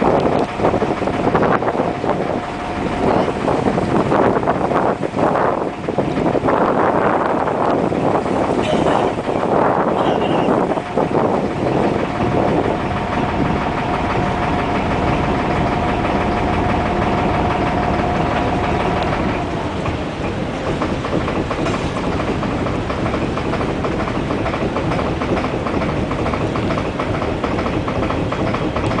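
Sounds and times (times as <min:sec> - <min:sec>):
boat engine running: 0:00.0 - 0:29.0
steady whine: 0:00.0 - 0:29.0.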